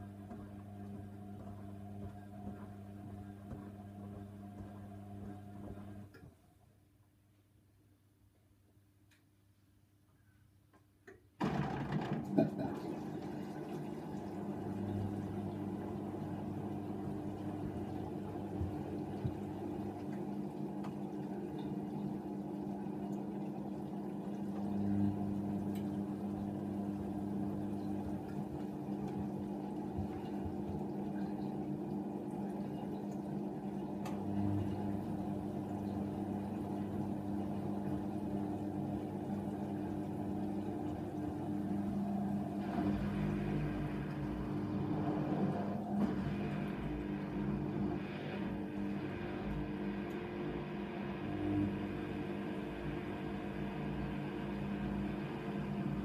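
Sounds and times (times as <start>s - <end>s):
washing machine motor humming: 0.0s - 6.4s, 11.1s - 56.0s.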